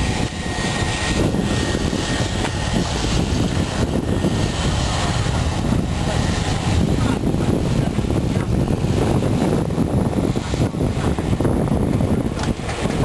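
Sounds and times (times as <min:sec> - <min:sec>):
propeller aircraft engines drone: 0:00.0 - 0:13.0.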